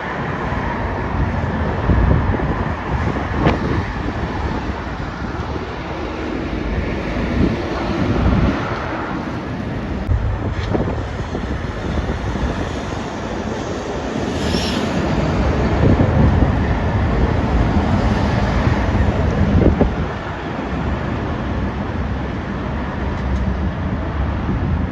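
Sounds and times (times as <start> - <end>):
traffic passing at speed: 0.0 - 24.9
wind on microphone: 0.0 - 24.9.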